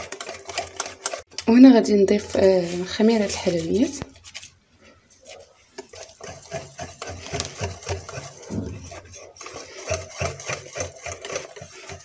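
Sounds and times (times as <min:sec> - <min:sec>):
whisk beating batter in glass bowl: 0:00.0 - 0:01.2, 0:02.1 - 0:04.5, 0:05.3 - 0:12.0.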